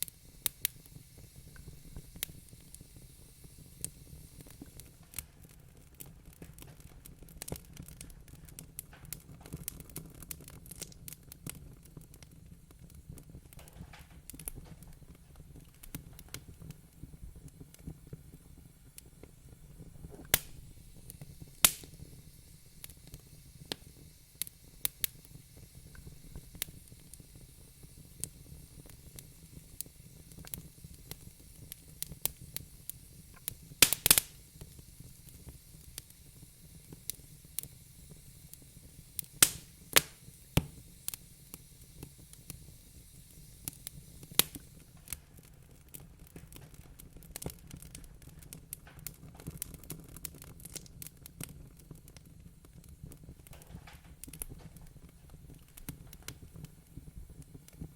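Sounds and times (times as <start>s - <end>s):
fire crackling and popping: 0.0s - 57.9s
soft rumble and hiss: 0.0s - 57.9s.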